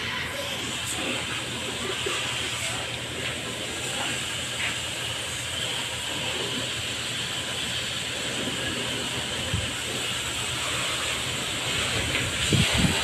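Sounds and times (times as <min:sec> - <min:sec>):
water spraying from hose: 0:00.0 - 0:13.0.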